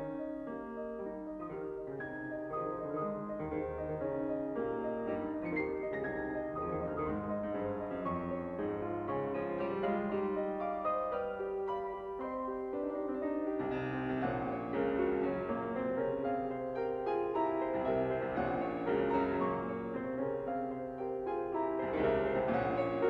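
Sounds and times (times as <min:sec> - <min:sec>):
piano music with held chords: 0:00.0 - 0:23.0.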